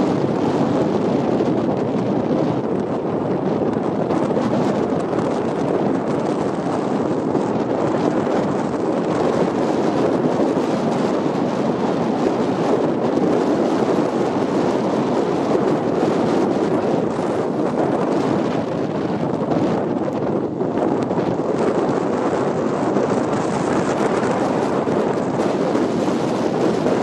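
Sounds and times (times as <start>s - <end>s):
car road noise: 0.0s - 27.0s
wind on microphone: 0.0s - 27.0s.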